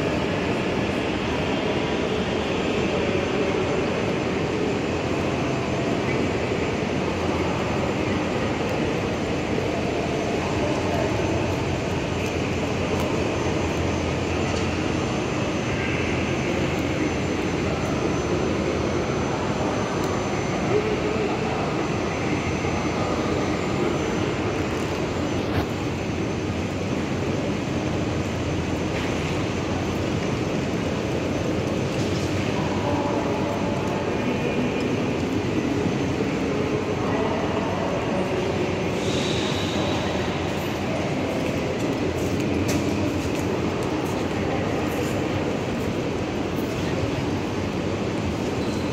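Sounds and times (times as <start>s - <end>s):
echoing train station hall ambience: 0.0s - 48.9s.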